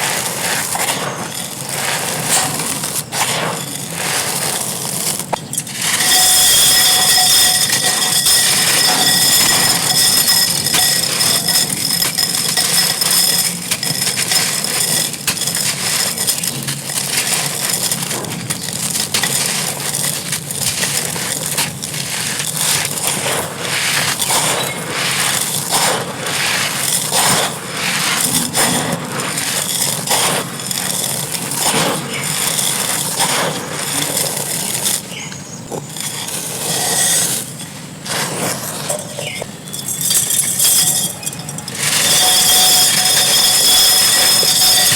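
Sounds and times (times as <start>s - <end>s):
clay pot and sand crunching: 0.0s - 44.9s.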